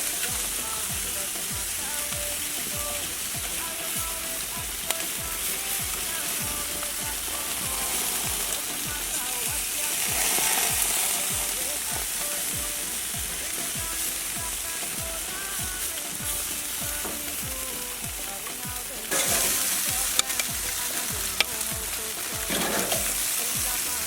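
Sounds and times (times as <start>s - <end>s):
background music with steady beat: 0.0s - 24.0s
beef sizzling on grill: 0.0s - 24.0s.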